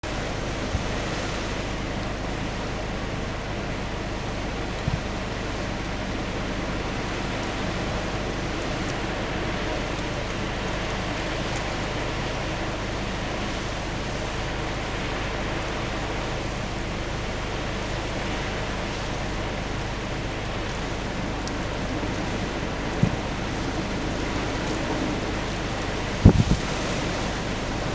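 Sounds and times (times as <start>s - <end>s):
heavy rain with wind: 0.0s - 27.9s.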